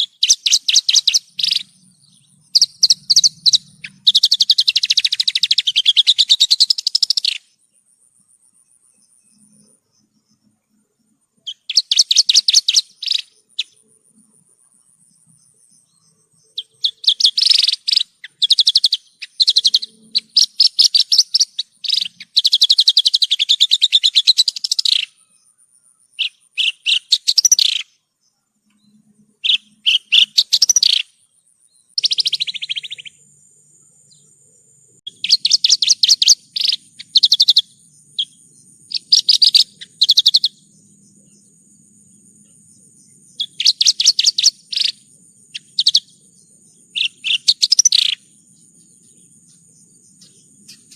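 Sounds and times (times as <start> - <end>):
lark singing trills: 0.0 - 7.6, 11.4 - 14.0, 15.1 - 28.0, 28.7 - 50.9.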